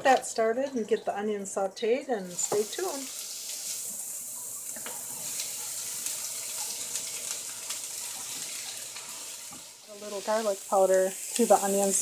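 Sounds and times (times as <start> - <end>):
onions sizzling in a frying pan: 2.2 - 12.0.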